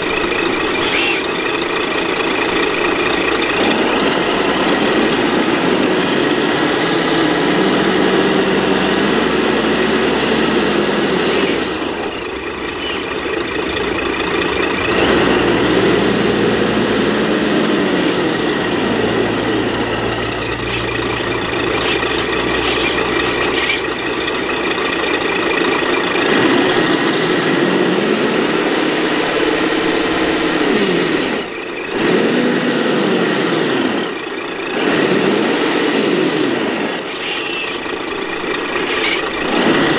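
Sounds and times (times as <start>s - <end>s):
electronic diesel engine sound revving: 0.0s - 39.9s.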